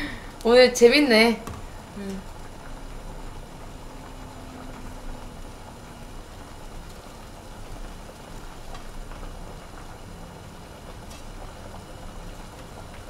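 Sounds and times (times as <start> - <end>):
pot boiling on stove: 0.0 - 13.0.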